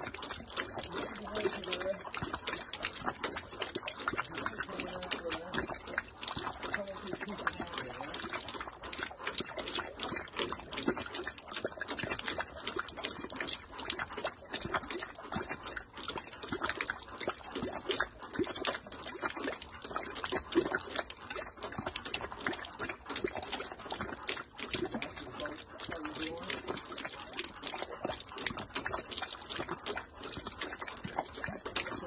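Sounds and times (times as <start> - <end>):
water jet splashing on ground: 0.0 - 32.0.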